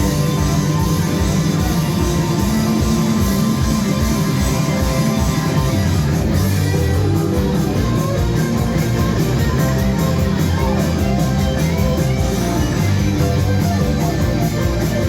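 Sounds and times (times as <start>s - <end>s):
loud rock music with guitar: 0.0s - 15.0s.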